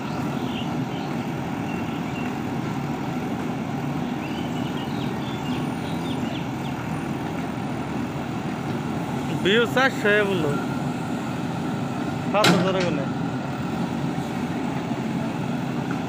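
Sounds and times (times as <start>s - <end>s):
backhoe diesel engine: 0.0s - 16.0s.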